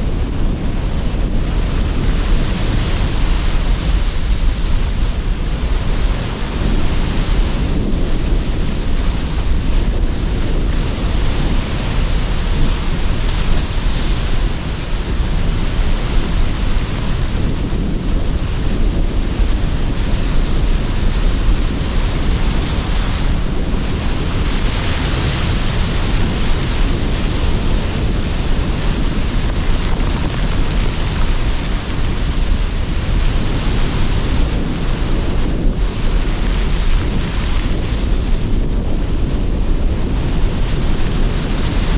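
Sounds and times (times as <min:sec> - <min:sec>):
sea surf washing: 0:00.0 - 0:41.9
strong wind blowing: 0:00.0 - 0:41.9.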